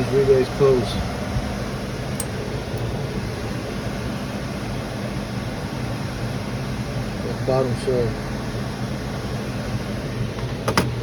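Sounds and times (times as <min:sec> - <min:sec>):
air conditioning hum: 0:00.0 - 0:11.0.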